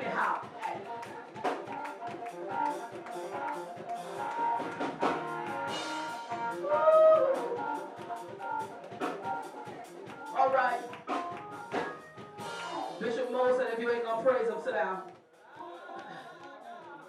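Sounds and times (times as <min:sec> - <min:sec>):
held keyboard notes: 0:00.0 - 0:17.0
live band playing: 0:00.0 - 0:17.0
drum kit strikes: 0:00.2 - 0:14.3.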